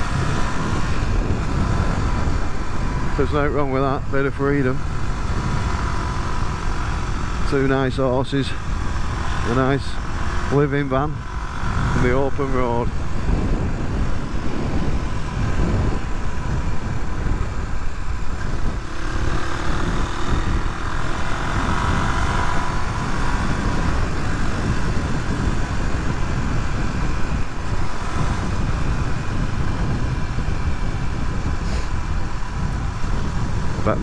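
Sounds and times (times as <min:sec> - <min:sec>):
motorcycle engine running: 0:00.0 - 0:34.0
wind noise on microphone: 0:00.0 - 0:34.0.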